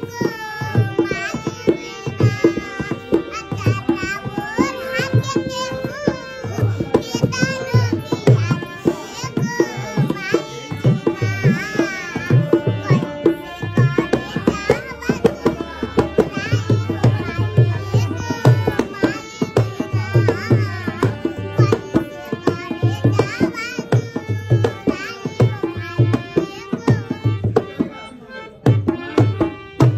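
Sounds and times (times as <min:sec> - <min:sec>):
tabla playing: 0:00.0 - 0:29.9.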